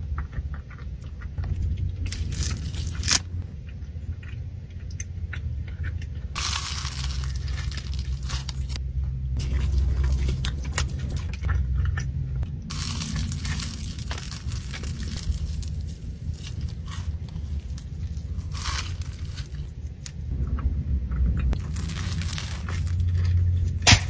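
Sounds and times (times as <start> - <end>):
pastry crunching: 0.0 - 20.4, 21.2 - 24.0
low chewing rumble: 0.0 - 24.0.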